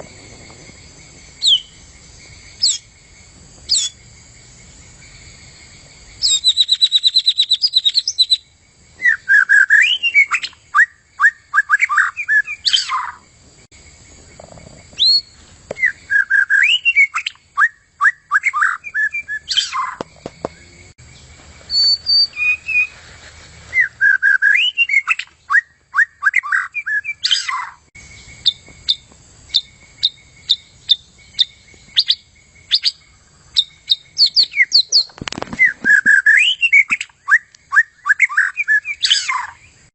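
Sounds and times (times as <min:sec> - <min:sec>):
bird singing whistled trills: 0:01.4 - 0:01.8, 0:02.5 - 0:02.9, 0:03.7 - 0:04.0, 0:06.2 - 0:13.2, 0:14.9 - 0:22.9, 0:23.7 - 0:39.9.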